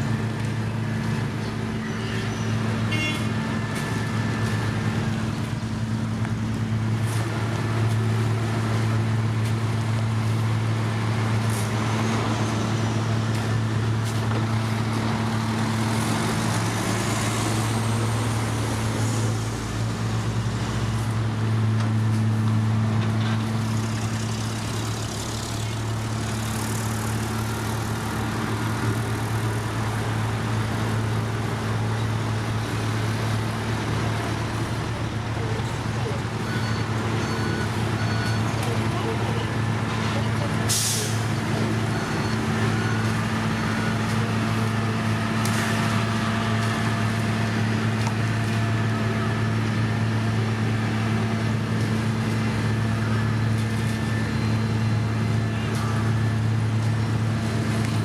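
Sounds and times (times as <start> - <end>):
heavy machinery engine humming: 0.0 - 58.0.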